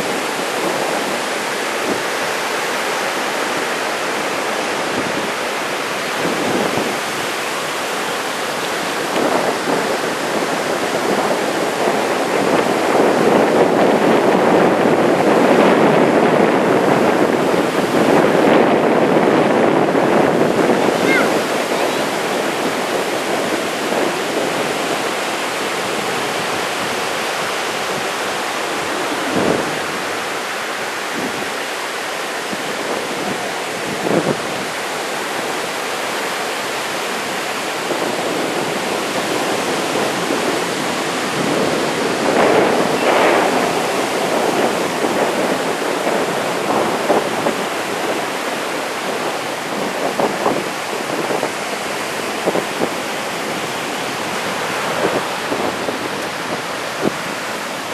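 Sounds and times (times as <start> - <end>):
heavy surf breaking on beach: 0.0 - 57.9.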